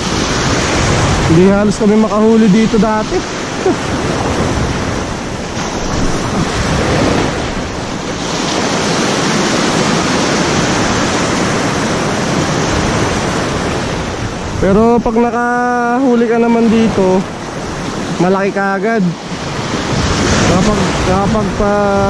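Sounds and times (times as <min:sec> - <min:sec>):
small waves breaking in surf: 0:00.0 - 0:22.0.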